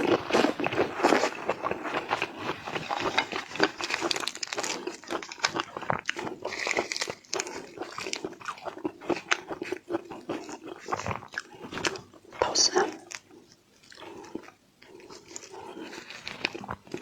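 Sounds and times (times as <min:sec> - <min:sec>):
crunchy chewing of shrimp: 0:00.0 - 0:17.0.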